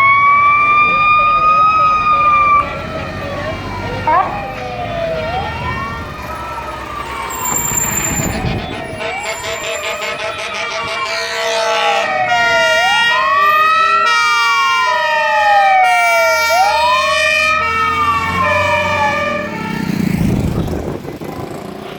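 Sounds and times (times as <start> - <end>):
siren alternating tones: 0.0 - 20.9
fire engine siren wailing: 0.0 - 21.4
truck engine rumble: 0.0 - 21.9.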